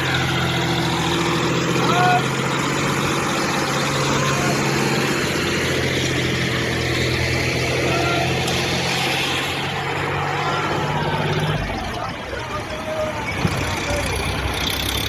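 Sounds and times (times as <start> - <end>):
tractor diesel engine humming: 0.0 - 15.0.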